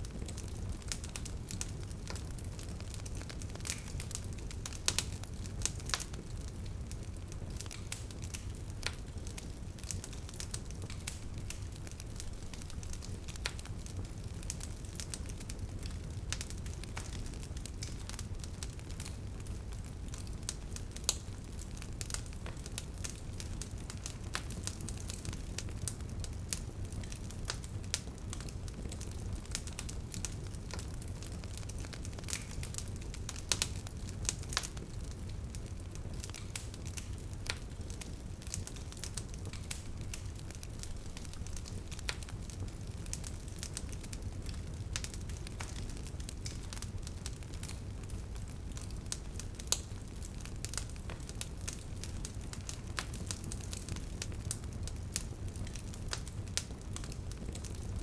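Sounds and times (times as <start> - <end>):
fire pops and snaps: 0.0 - 58.0
wood fire crackling: 0.0 - 58.0.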